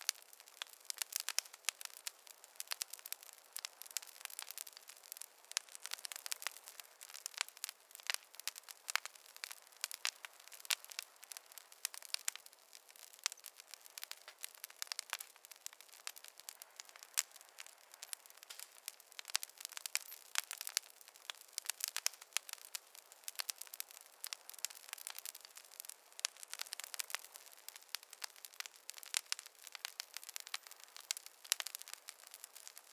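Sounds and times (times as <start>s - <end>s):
campfire crackling: 0.0s - 32.9s
faint hiss: 0.0s - 32.9s.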